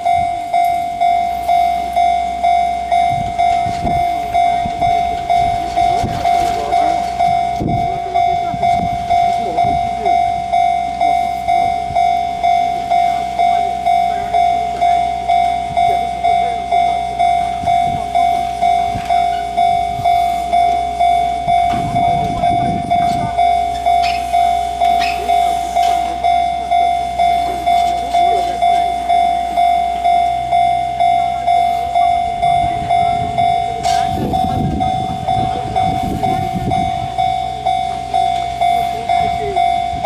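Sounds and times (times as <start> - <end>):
level crossing warning bell: 0.0 - 40.0.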